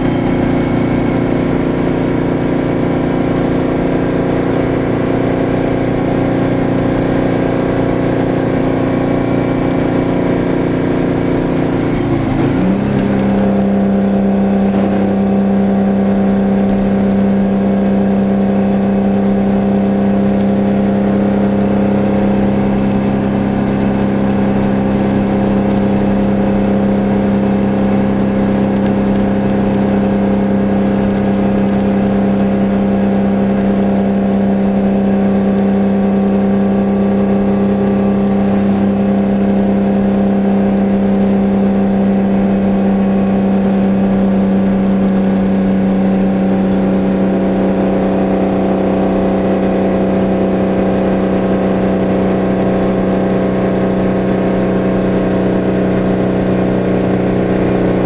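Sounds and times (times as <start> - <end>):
diesel engine drone: 0.0 - 58.0.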